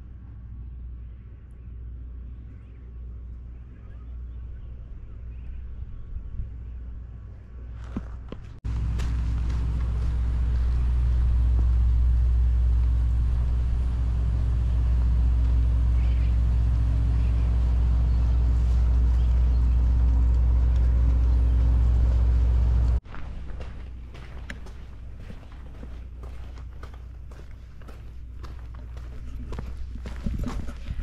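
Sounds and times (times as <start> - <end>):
engine running with low drone: 0.0 - 31.0.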